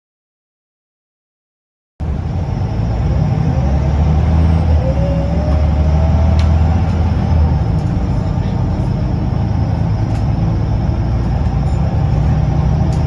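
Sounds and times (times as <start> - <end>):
bus diesel engine rumble: 2.0 - 13.0
drivetrain whine: 2.0 - 13.0.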